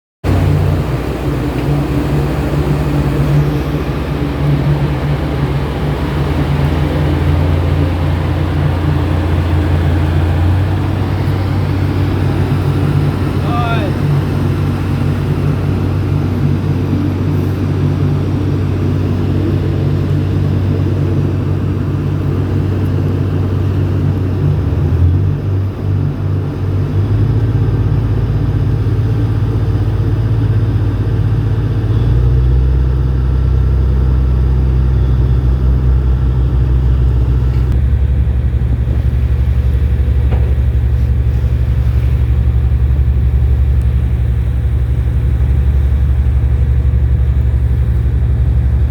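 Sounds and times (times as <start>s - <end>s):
boat engine rumble: 0.2s - 48.9s.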